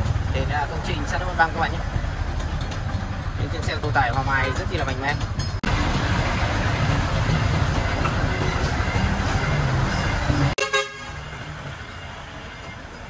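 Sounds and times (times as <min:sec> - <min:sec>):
truck diesel engine: 0:00.0 - 0:13.0.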